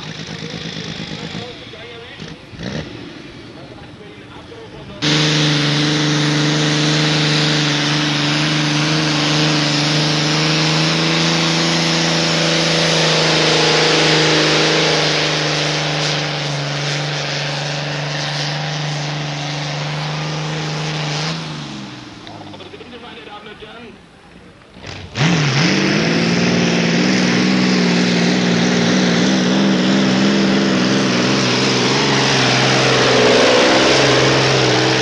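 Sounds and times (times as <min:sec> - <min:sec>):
heavy exhaust noise: 0:00.0 - 0:35.0
tractor engine running high: 0:00.0 - 0:35.0.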